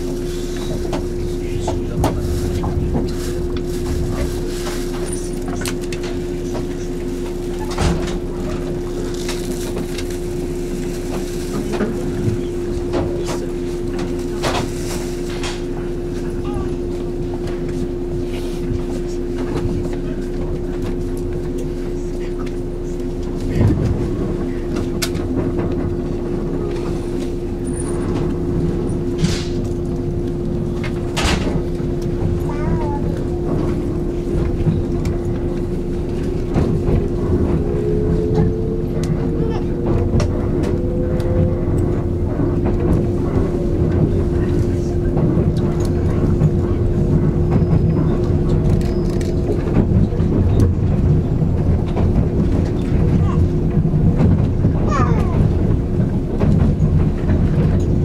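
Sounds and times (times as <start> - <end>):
electric train humming: 0.0 - 58.0
passengers' footsteps: 0.0 - 58.0.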